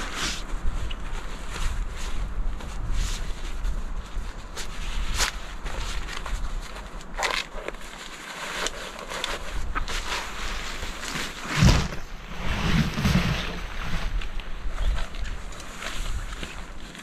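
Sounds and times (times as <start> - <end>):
nylon tarp rustling: 0.0 - 17.0.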